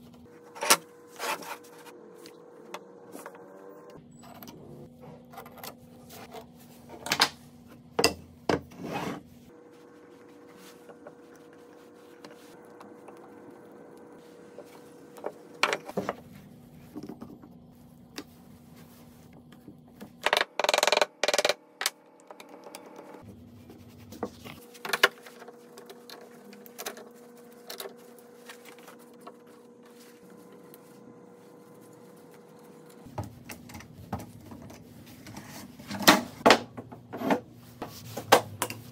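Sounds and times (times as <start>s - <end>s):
faint hum: 0.0s - 20.3s, 21.7s - 35.9s.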